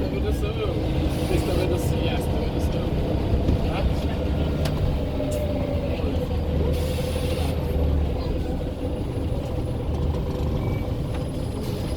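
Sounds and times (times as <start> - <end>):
bus diesel engine rumble: 0.0 - 11.9.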